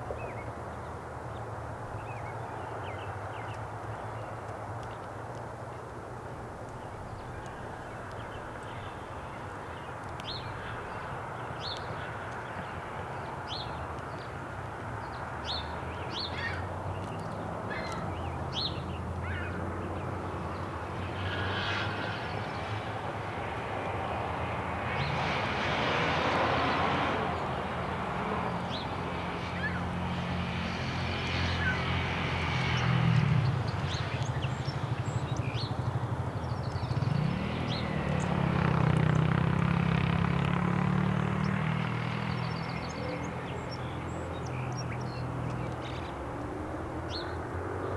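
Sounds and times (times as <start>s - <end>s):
passing engine drone: 6.9s - 47.9s.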